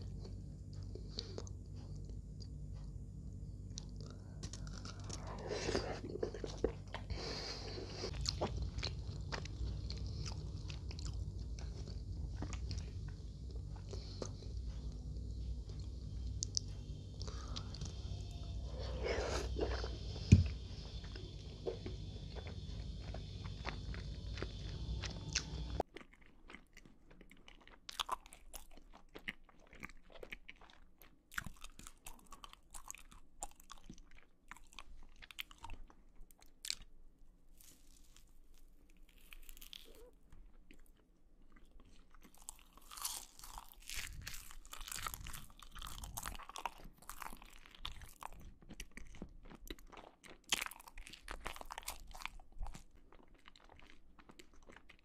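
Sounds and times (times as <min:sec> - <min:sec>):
chewing marshmallows: 0:00.0 - 0:55.0.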